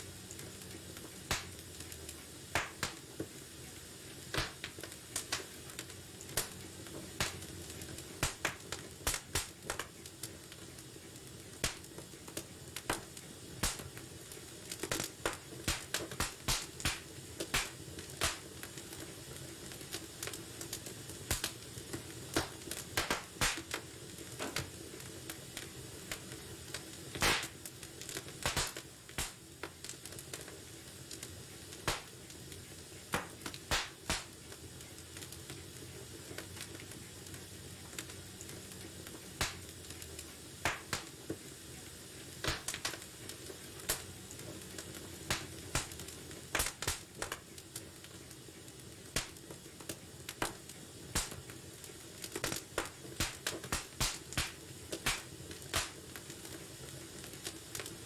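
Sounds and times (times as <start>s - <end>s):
fire hissing: 0.0s - 58.0s
wood fire crackling and popping: 0.0s - 58.0s.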